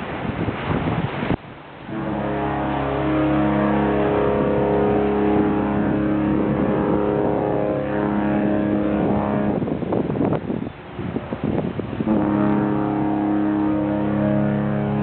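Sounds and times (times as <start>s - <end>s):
ship horn blast: 1.8s - 15.0s.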